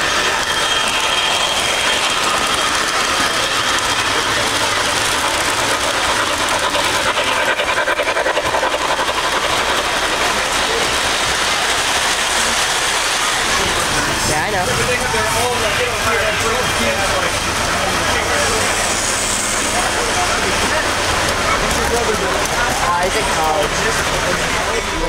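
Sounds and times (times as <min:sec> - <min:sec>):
model trains rumbling: 0:00.0 - 0:25.0.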